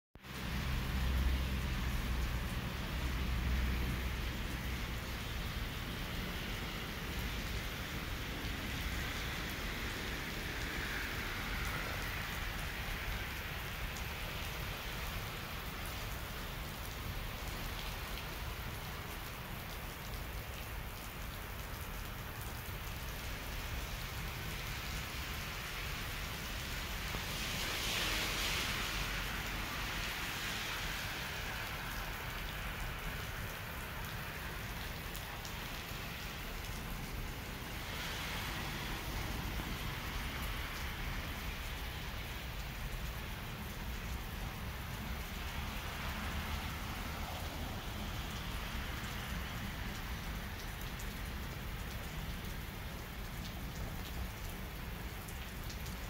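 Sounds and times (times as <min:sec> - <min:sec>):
water jets splashing on asphalt: 0:00.2 - 0:56.0.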